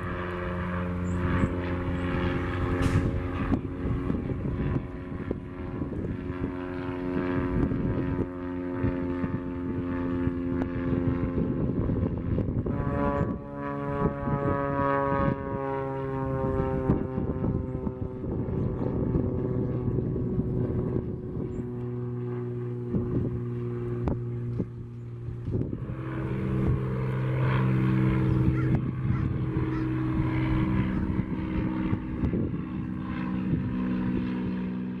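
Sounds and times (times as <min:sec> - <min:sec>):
propeller airplane engine drone: 0:00.0 - 0:35.0.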